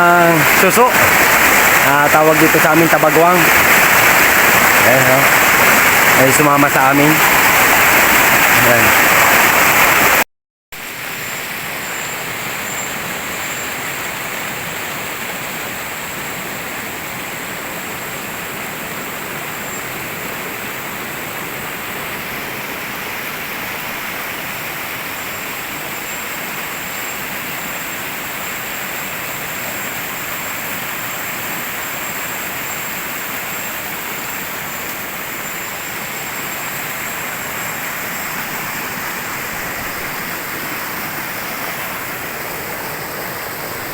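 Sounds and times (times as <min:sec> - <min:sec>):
stream water rushing: 0:00.0 - 0:10.2, 0:10.8 - 0:43.9.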